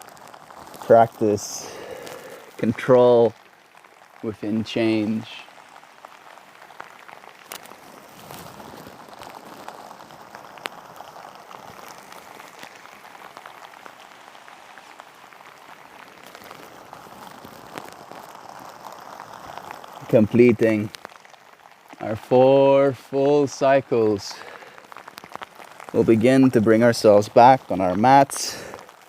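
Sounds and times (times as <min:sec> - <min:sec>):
light rain falling: 0:00.0 - 0:29.0
raindrops ticking: 0:00.0 - 0:29.0.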